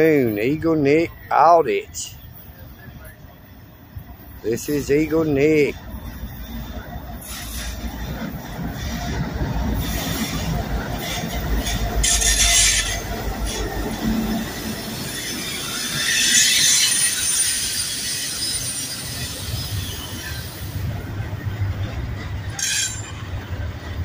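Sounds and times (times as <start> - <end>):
diesel locomotives rumbling: 0.0 - 24.0
freight cars wheel-on-rail noise: 0.0 - 24.0.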